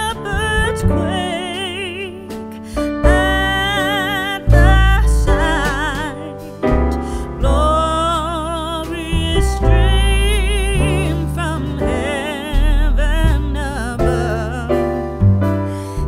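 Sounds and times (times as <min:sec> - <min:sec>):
person singing with vibrato: 0:00.0 - 0:16.0
pop backing track with bass: 0:00.0 - 0:16.0.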